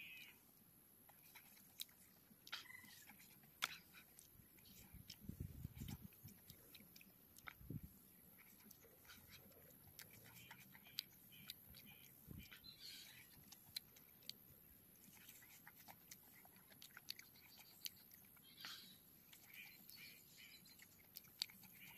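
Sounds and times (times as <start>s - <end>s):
chewing roasted meat: 1.0s - 21.9s.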